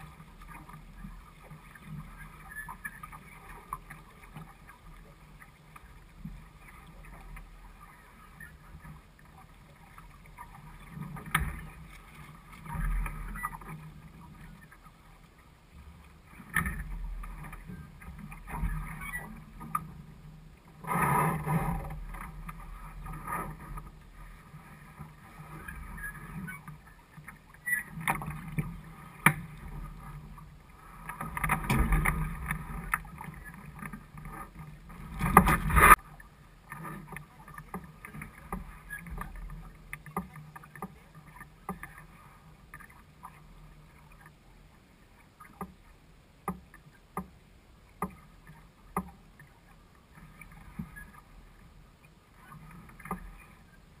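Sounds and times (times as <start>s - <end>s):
water lapping against hull: 0.0s - 54.0s
water splashes: 0.0s - 54.0s.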